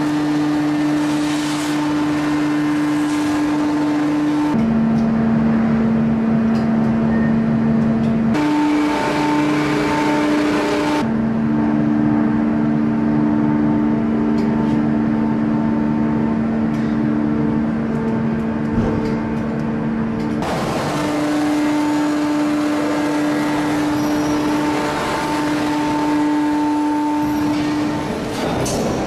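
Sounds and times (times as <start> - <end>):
forging machinery drone: 0.0 - 7.0, 7.8 - 29.0.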